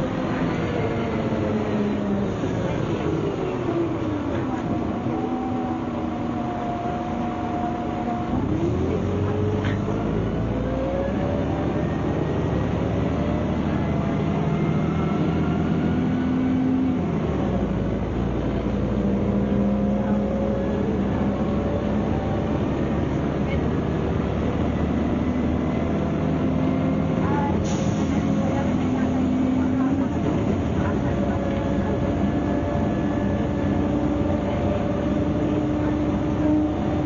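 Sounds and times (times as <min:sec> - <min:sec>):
bus diesel engine accelerating: 0:00.0 - 0:37.0.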